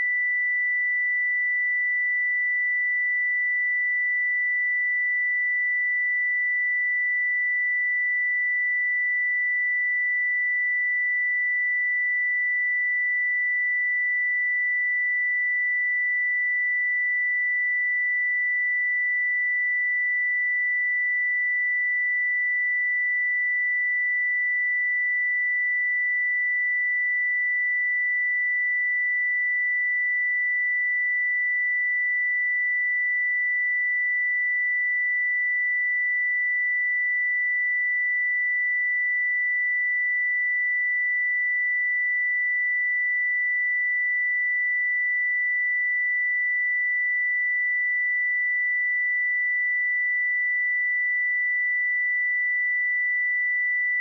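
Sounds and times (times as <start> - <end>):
high-pitched sine-wave test tone: 0.0 - 54.0.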